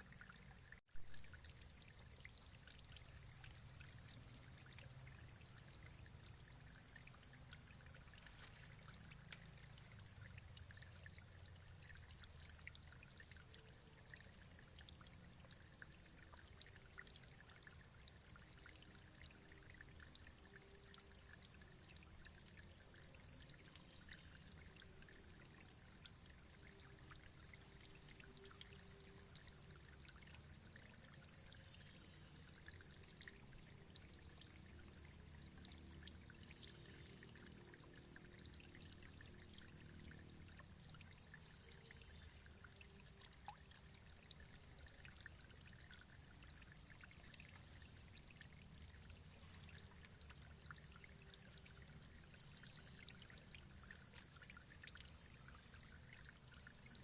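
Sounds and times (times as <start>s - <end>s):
trickling stream: 0.0s - 57.0s.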